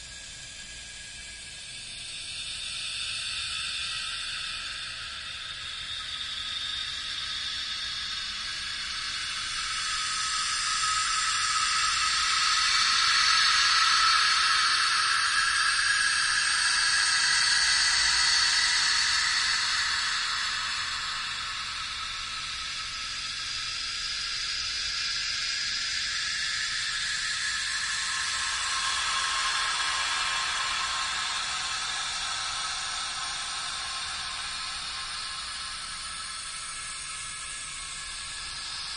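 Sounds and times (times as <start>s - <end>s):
high-pitched hissing noise: 0.0s - 38.9s.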